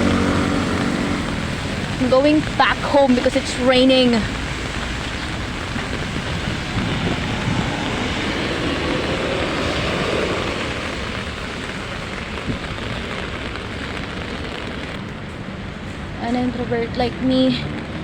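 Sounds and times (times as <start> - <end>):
steady rain on street: 0.0 - 18.0
traffic passing: 0.0 - 18.0.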